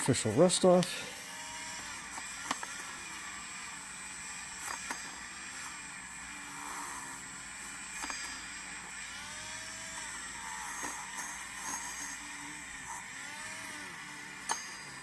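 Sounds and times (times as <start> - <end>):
rotary tool whining: 0.0 - 15.0.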